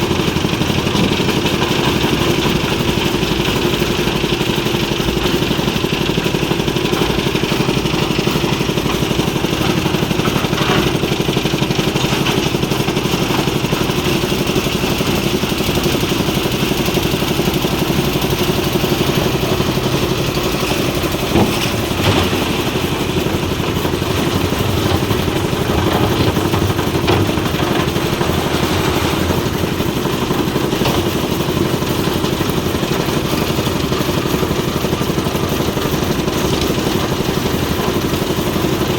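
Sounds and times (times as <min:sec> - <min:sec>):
machinery engine running: 0:00.0 - 0:38.9.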